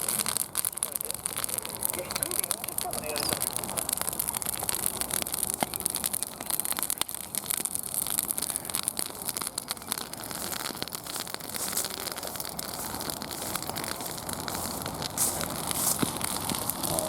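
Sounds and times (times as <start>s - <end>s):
fire hissing: 0.0s - 17.0s
wood fire crackling: 0.0s - 17.0s.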